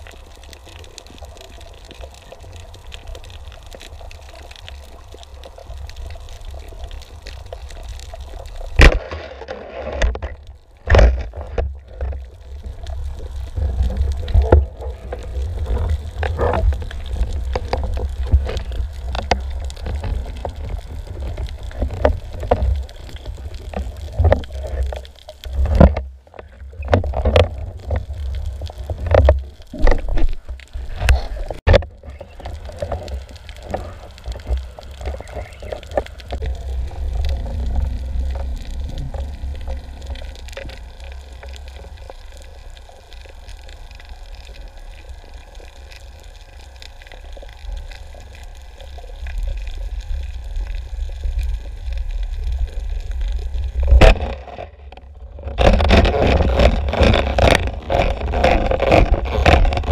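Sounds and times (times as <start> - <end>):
underwater low rumble: 0.0 - 59.9.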